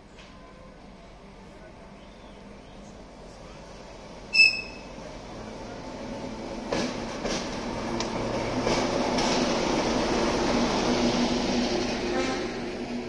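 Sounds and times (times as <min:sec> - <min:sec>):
diesel locomotive engine passing: 0:00.0 - 0:13.0.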